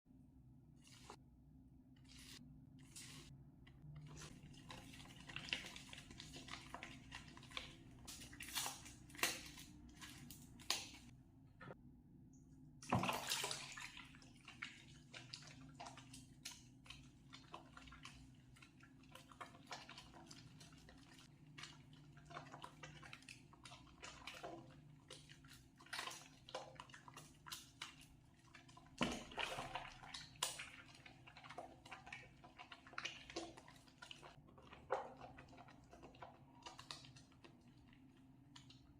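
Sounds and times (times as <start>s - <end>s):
hands lathering soap: 0.8s - 1.2s, 2.0s - 11.1s, 13.2s - 38.9s.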